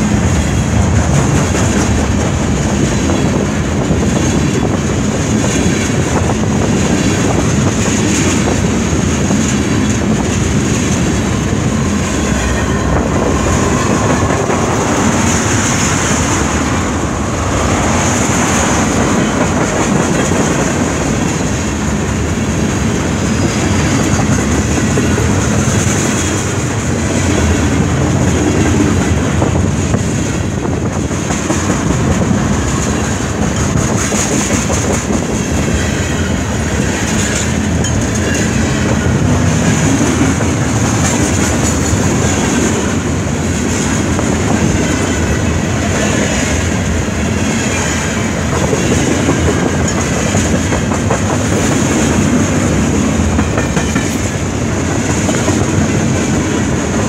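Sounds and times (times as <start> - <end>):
clickety-clack over rail joints: 0.0 - 57.0
freight train wheels rumbling: 0.0 - 57.0.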